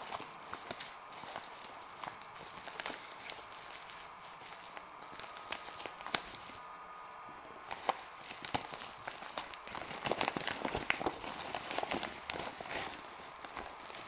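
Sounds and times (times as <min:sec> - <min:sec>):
package being opened: 0:00.0 - 0:06.6, 0:07.4 - 0:14.0
packaging crinkling: 0:00.0 - 0:06.6, 0:07.3 - 0:14.0.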